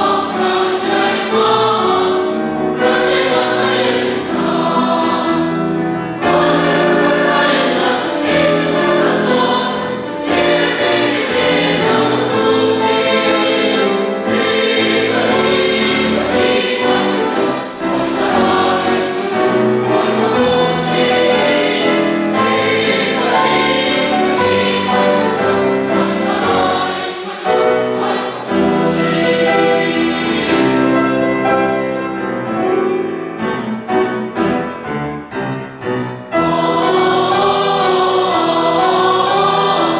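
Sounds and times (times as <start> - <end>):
boys choir singing: 0.0 - 32.1, 36.2 - 39.9
musical accompaniment: 0.0 - 39.9.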